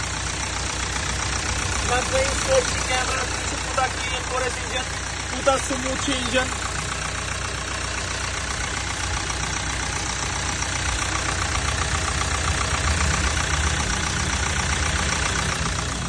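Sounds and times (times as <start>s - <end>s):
petrol engine idling: 0.0s - 16.0s.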